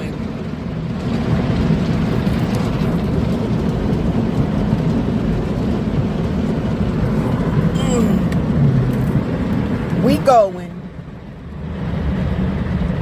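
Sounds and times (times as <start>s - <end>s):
water drumming on car: 0.0s - 13.0s.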